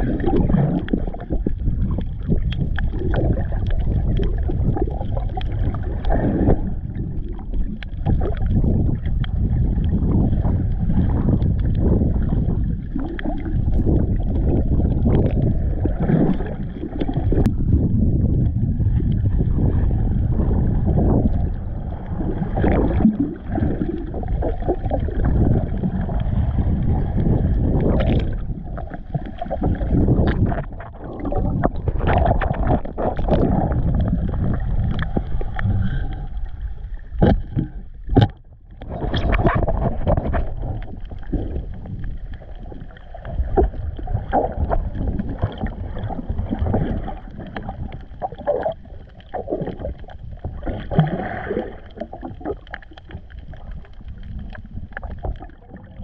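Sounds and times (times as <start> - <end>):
muffled water sloshing underwater: 0.0 - 56.0.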